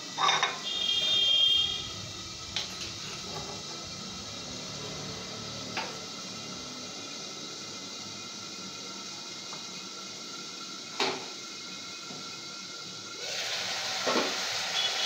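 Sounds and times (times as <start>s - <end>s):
beans simmering hiss: 0.0s - 15.0s.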